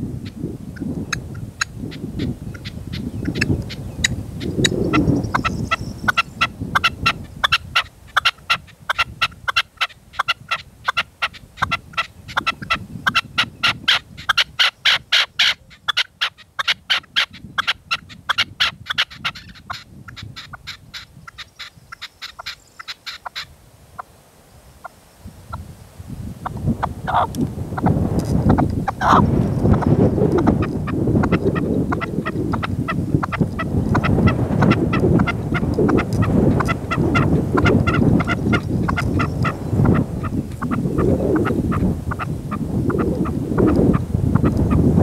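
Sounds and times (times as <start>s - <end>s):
wind buffeting microphone: 0.0s - 22.7s, 24.7s - 45.0s
partridge calling: 0.2s - 24.1s, 26.8s - 27.9s, 28.5s - 44.8s.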